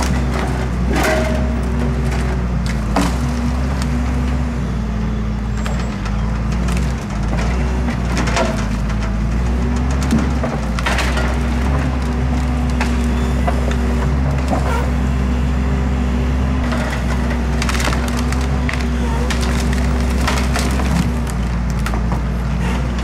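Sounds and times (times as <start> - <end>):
logs cracking and splintering: 0.0 - 4.6, 5.4 - 23.0
diesel engine running: 0.0 - 23.0.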